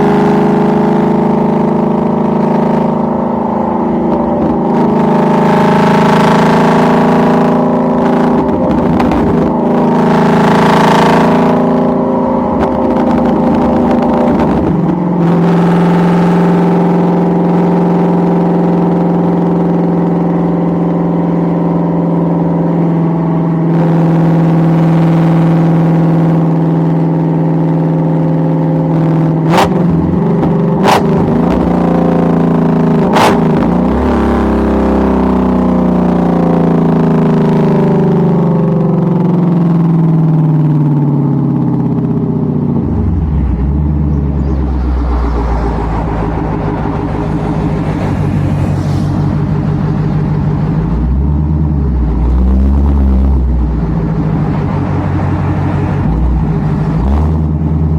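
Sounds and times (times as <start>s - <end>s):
car engine running: 0.0s - 57.9s.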